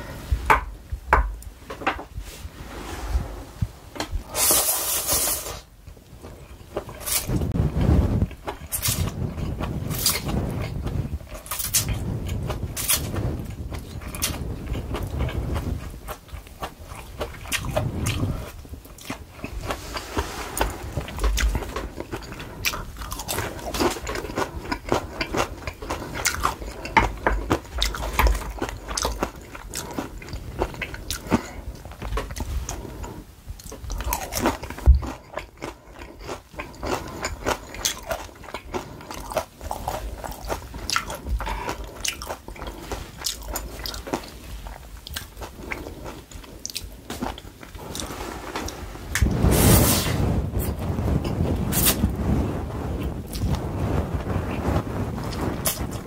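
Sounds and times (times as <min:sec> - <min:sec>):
crunching fried batter: 0:05.5 - 0:56.0.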